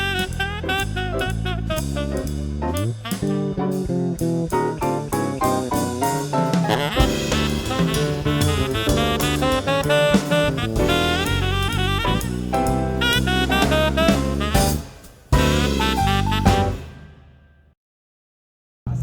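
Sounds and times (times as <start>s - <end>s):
jazz with saxophone drums and bass: 0.0s - 17.2s.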